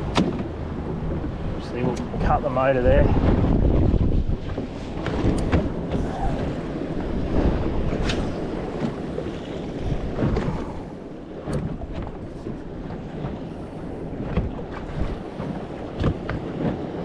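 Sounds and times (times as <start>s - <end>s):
small waves slapping boat hull: 0.0s - 17.0s
wind buffeting microphone: 0.0s - 17.0s.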